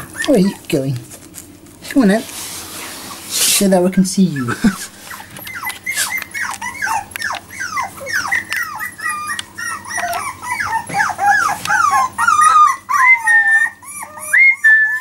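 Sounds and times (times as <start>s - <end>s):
puppies whining and squeaking: 0.0s - 1.6s, 2.5s - 3.5s, 4.2s - 15.0s.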